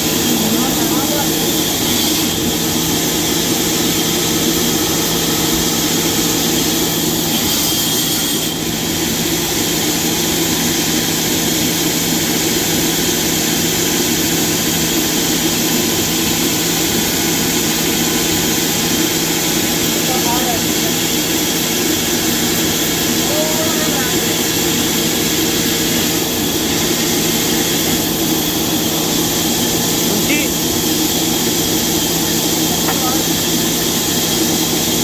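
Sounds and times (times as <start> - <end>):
sawmill machinery humming: 0.0 - 35.0.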